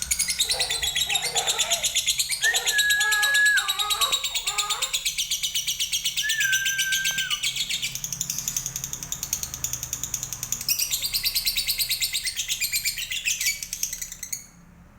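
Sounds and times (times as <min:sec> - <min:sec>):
lovebird chattering trill: 0:00.0 - 0:14.4.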